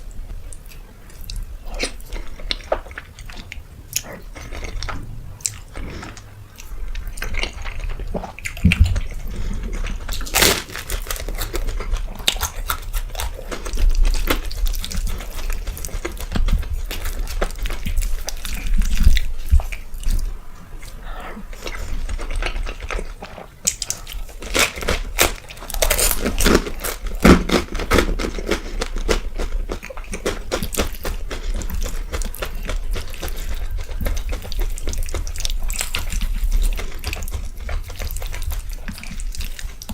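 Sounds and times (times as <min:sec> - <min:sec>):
chewing and mouth smacks: 0:00.4 - 0:39.9.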